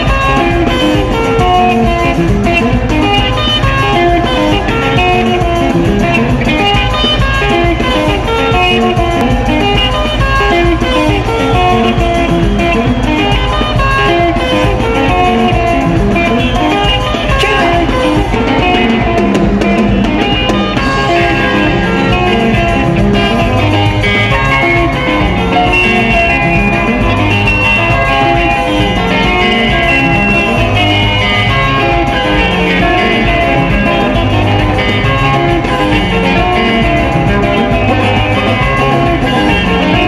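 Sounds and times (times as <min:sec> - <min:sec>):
electric guitar lines: 0:00.0 - 0:40.0
live band music: 0:00.0 - 0:40.0.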